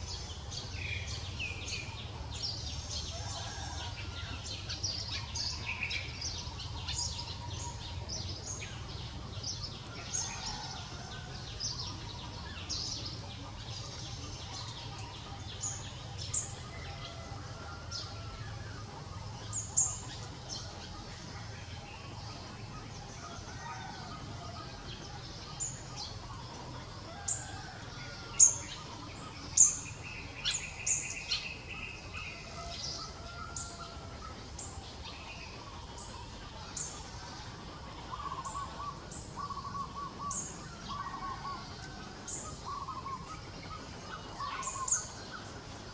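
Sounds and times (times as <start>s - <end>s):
birds chirping: 0.0s - 45.9s
low background noise: 0.0s - 45.9s.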